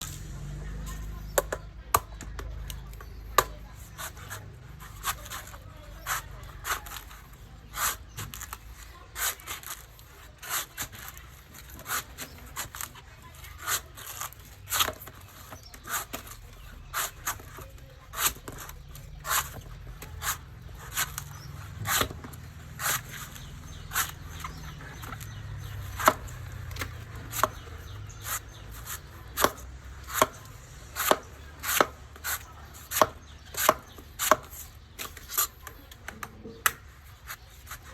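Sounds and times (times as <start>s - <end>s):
blade chopping coconut: 1.0s - 37.9s.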